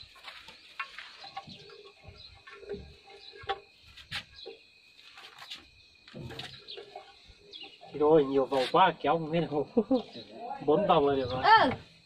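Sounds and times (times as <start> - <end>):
birds chirping: 0.0 - 4.7, 5.4 - 11.9.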